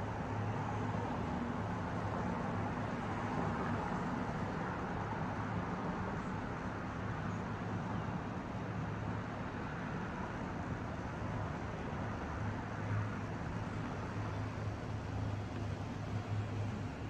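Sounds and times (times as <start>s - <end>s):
urban traffic rumble: 0.0s - 17.0s.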